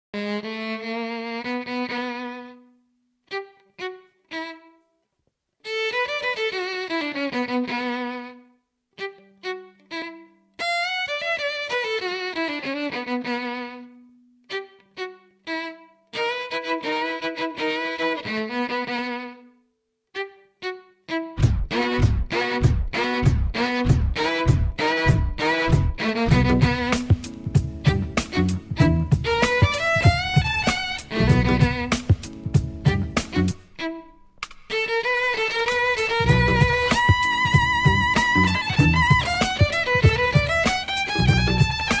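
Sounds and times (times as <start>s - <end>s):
violin playing fast phrases: 5.6s - 8.4s, 9.0s - 19.5s, 20.2s - 42.0s.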